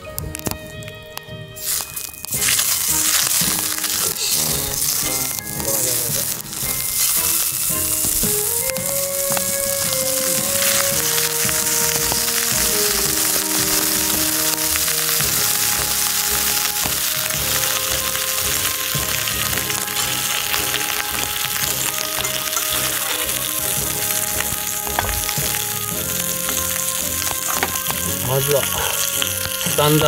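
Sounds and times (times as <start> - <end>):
background music melody: 0.0 - 30.0
pork sizzling in frying pan: 1.6 - 30.0.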